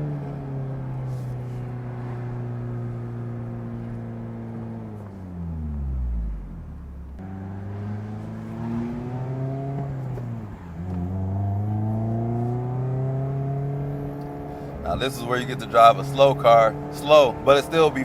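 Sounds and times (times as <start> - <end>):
car engine revving through gears: 0.0 - 18.0.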